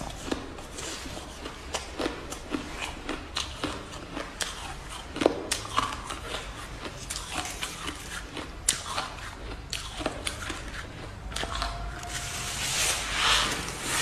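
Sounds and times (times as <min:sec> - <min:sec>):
chewing crunchy frost: 0:00.0 - 0:14.0.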